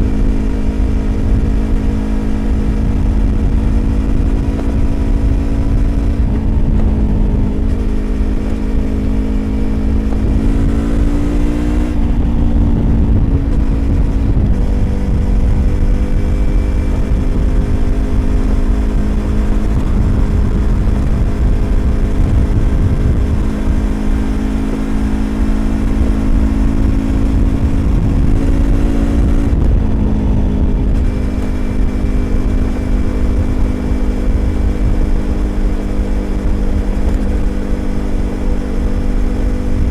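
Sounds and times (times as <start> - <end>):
motorcycle engine cruising: 0.0 - 39.9
riding wind rumble: 0.0 - 39.9.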